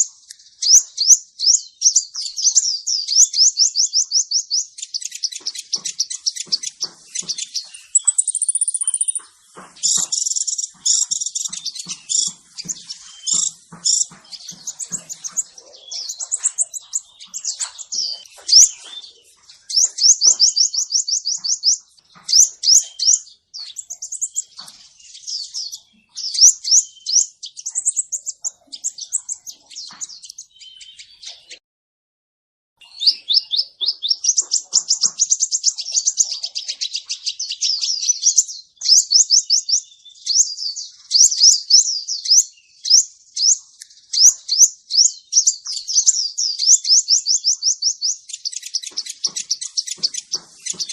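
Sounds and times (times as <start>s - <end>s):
sunbird singing high chirps: 0.0s - 31.6s, 32.8s - 50.9s.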